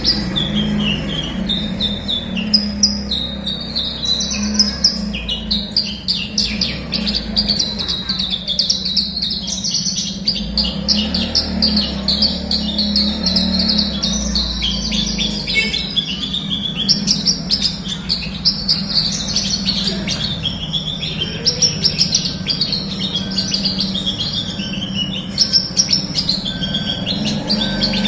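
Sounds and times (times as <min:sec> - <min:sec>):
bird singing rapid chirps and trills: 0:00.0 - 0:28.0.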